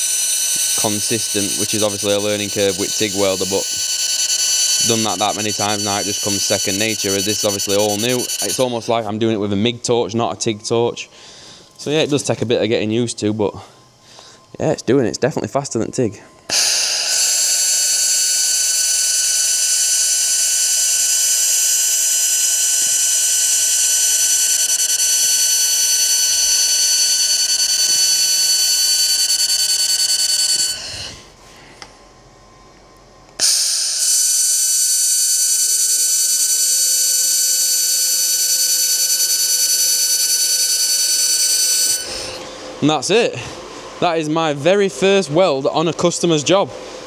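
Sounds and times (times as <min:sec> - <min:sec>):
laser welder whine: 0:00.0 - 0:47.0.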